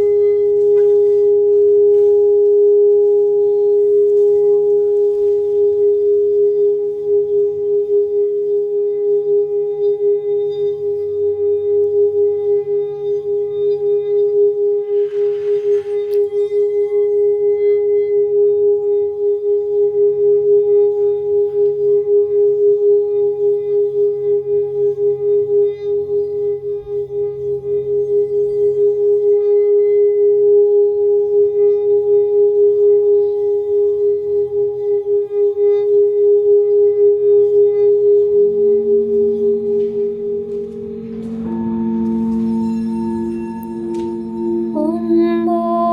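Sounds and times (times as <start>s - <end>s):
singing bowl pulsing tone: 0.0s - 45.9s
soft low drone: 0.0s - 45.9s.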